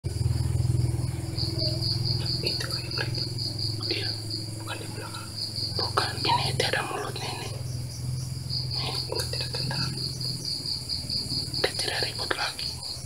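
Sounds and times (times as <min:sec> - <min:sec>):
constant low hum: 0:00.0 - 0:13.0
night insects chirping: 0:00.1 - 0:13.0.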